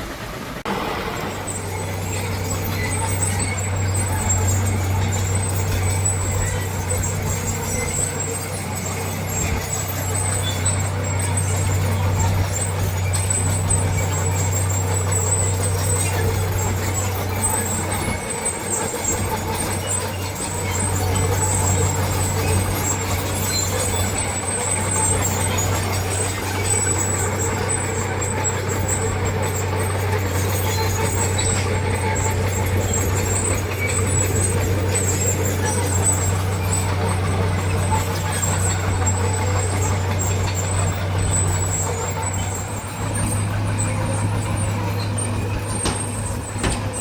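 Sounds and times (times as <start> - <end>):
heavy diesel engine under load: 0.0 - 47.0.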